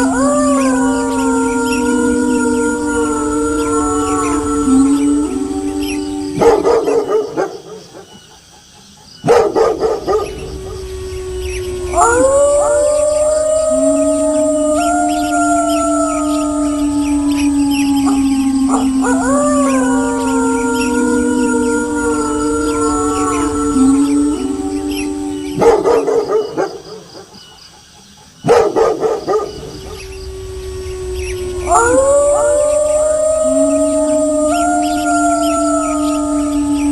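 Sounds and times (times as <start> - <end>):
wolves barking: 0.0 - 8.3, 9.2 - 27.4, 28.4 - 36.9
wolves howling: 0.0 - 8.3, 9.3 - 27.4, 28.5 - 36.9.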